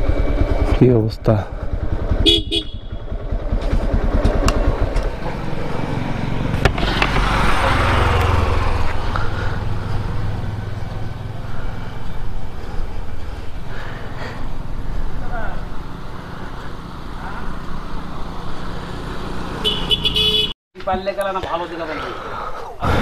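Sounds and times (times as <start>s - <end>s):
motorcycle engine running: 0.0s - 20.5s
wind and road noise: 0.0s - 23.0s.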